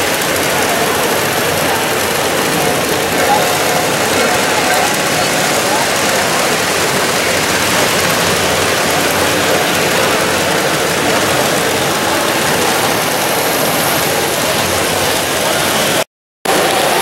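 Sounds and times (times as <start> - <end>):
crowd murmur: 0.0 - 17.0.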